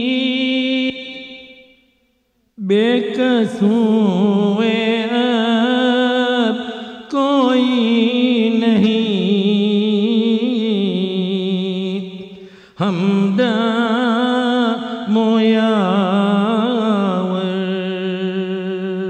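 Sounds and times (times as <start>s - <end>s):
man chanting: 0.0s - 1.8s, 2.6s - 19.0s.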